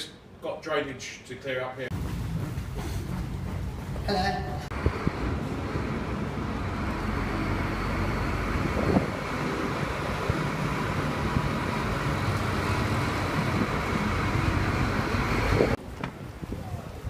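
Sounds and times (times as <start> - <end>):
street traffic rumble and hiss: 1.8 - 17.0.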